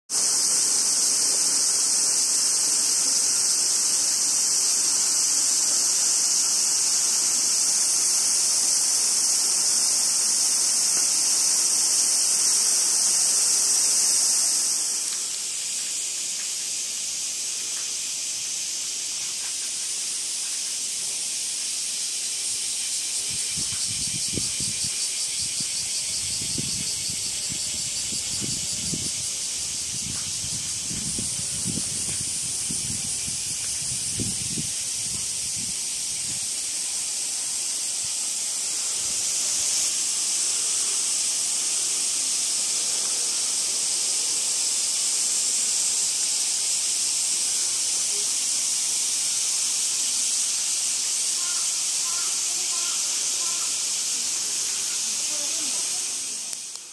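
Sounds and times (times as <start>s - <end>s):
cicadas buzzing: 0.1s - 56.9s.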